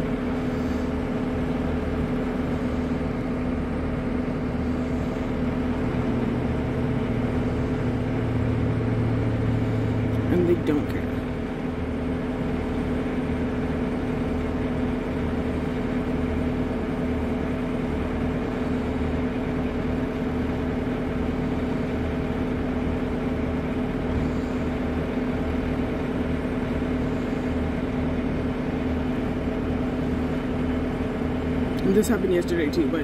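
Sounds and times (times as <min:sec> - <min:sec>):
construction machinery hum: 0:00.0 - 0:33.0.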